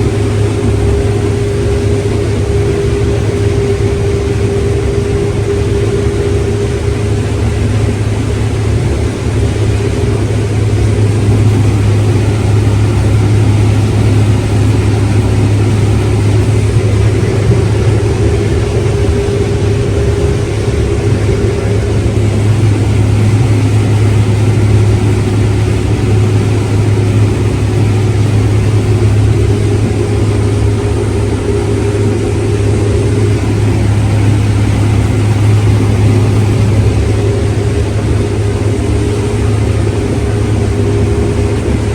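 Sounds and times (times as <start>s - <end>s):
farm machinery engine drone: 0.0s - 41.9s.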